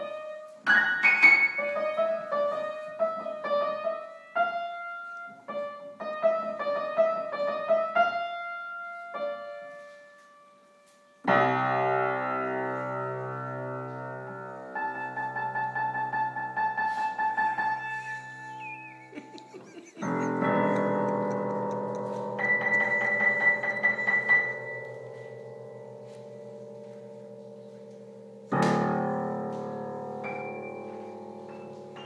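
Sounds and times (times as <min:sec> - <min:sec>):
grand piano playing: 0:00.0 - 0:32.0.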